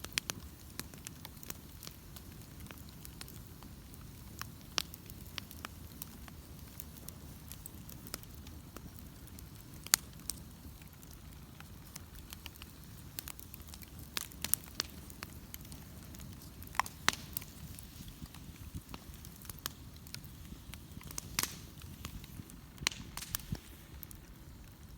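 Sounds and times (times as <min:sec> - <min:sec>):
fire crackles and pops: 0:00.0 - 0:24.9
low rush of flame: 0:00.0 - 0:24.9.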